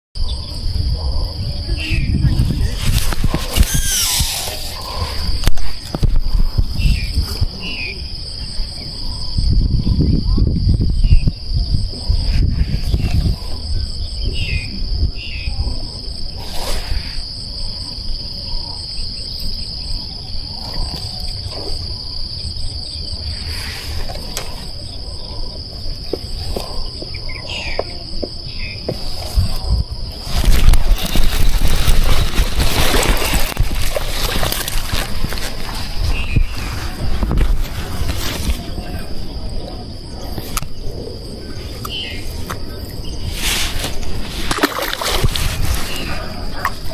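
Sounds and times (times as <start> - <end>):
insects chirring: 0.2 - 46.9.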